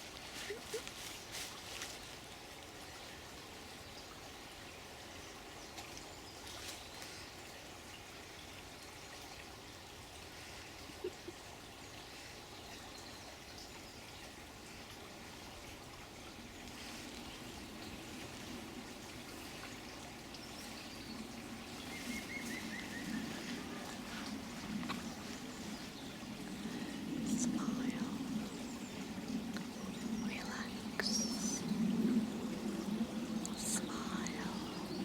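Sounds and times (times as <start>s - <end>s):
water trickling: 0.0s - 35.0s.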